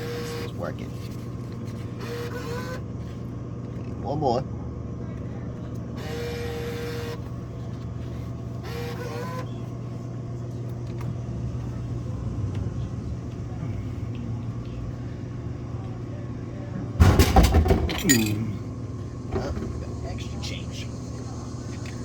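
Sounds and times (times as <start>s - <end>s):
vending machine humming: 0.0s - 22.0s
vending mechanism whirring: 0.0s - 22.0s.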